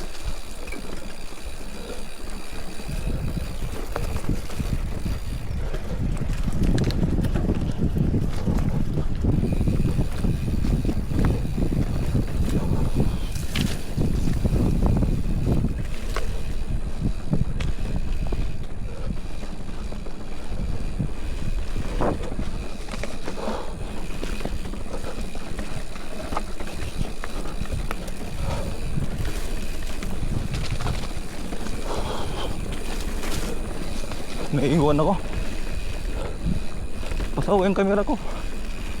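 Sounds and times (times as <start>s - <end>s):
bike clicks and rattles: 0.0s - 39.0s
wind on microphone: 0.0s - 39.0s.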